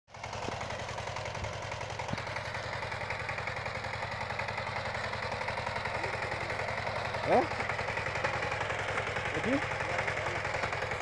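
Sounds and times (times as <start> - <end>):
diesel engine chugging: 0.1 - 11.0.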